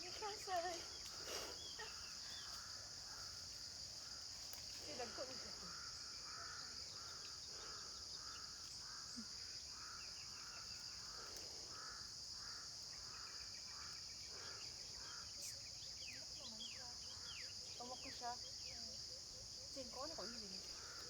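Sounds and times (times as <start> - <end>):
insect chorus: 0.0 - 21.0
repeated short insect calls: 0.0 - 21.0.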